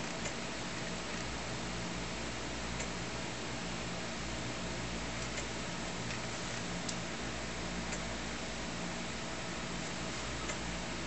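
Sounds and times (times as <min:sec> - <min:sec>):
computer fans whirring: 0:00.0 - 0:11.0
low electrical hum: 0:00.0 - 0:11.0.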